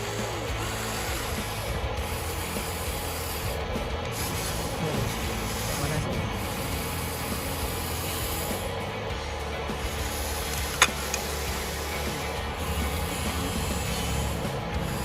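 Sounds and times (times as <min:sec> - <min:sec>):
gritty rubbing and scraping: 0:00.0 - 0:15.0.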